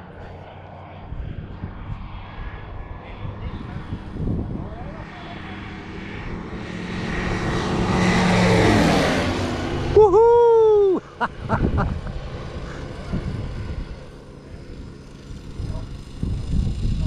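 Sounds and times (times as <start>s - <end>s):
propeller aircraft engine: 0.0s - 17.0s.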